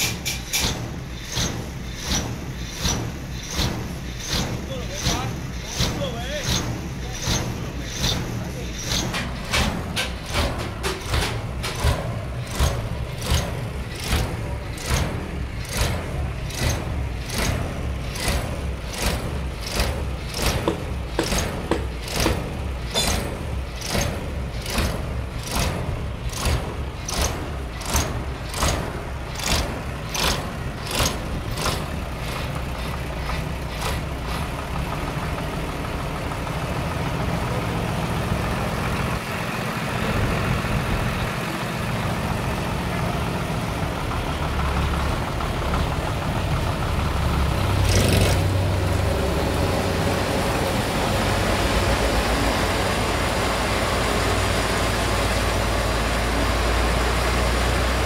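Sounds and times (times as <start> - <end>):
heavy engine running: 0.0 - 58.0.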